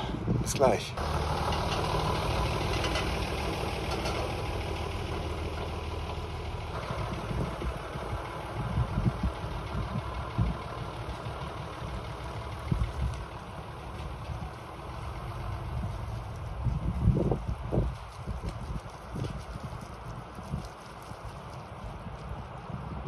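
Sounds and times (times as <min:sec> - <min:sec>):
car engine low hum: 0:00.0 - 0:23.0.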